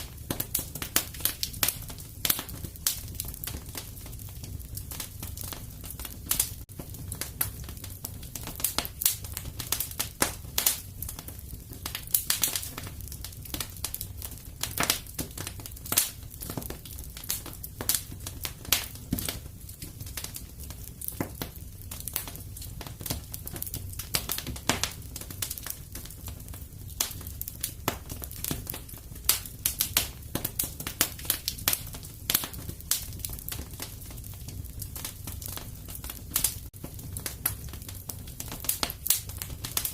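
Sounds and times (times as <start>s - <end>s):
fire crackling with pops: 0.0s - 39.9s
fire low rumble: 0.0s - 39.9s.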